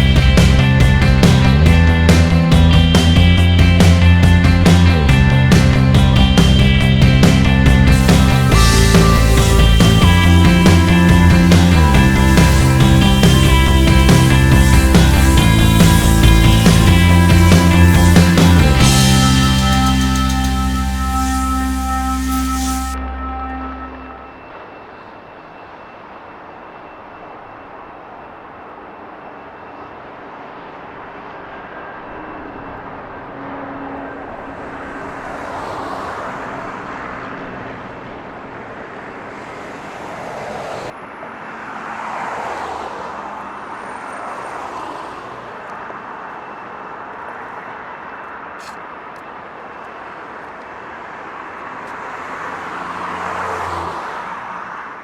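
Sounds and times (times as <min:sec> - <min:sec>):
vehicles passing: 0:00.0 - 0:24.7, 0:32.4 - 0:55.0
road traffic hum: 0:00.0 - 0:24.8, 0:32.1 - 0:55.0.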